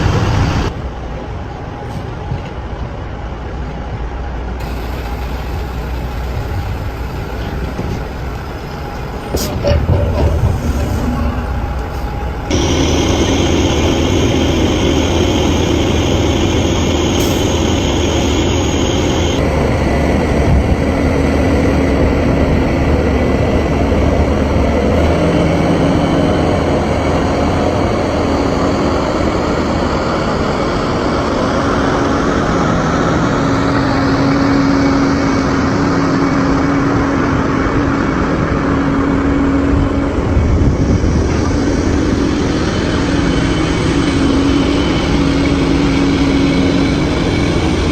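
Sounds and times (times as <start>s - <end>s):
truck engine rumbling: 3.6s - 47.9s.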